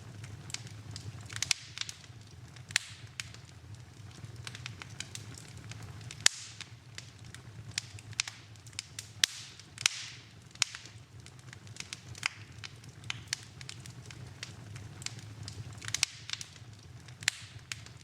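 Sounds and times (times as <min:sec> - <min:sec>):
low steady fire rumble: 0:00.0 - 0:18.0
wood fire crackling: 0:00.0 - 0:18.0.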